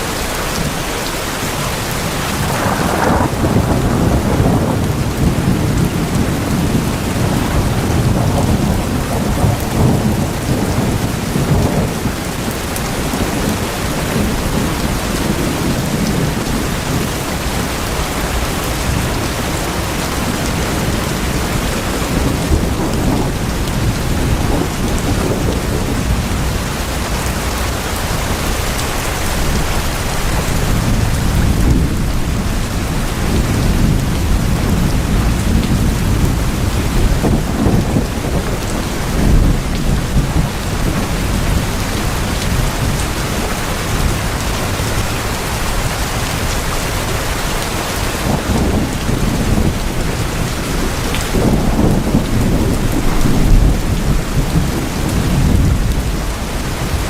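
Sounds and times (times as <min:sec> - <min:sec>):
heavy rain on tin roof: 0:00.0 - 0:57.0.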